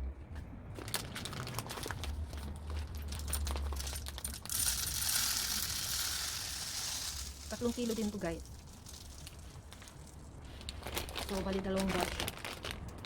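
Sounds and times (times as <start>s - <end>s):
seeds rattling and clicking: 1.0s - 13.0s.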